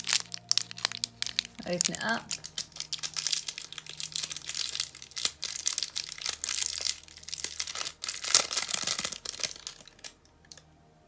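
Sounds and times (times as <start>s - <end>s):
wrapper crinkling and tearing: 0.0s - 10.6s.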